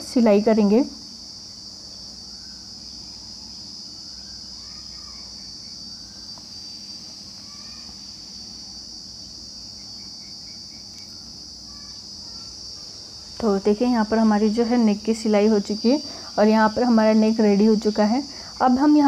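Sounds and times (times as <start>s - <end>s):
high-pitched insect drone: 0.0s - 19.0s
short insect chirps: 0.0s - 19.0s.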